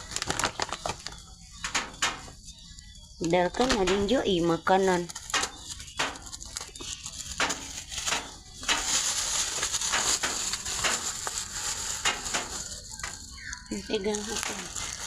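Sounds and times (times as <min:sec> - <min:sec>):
rustling and crackling handling noise: 0:00.0 - 0:15.0.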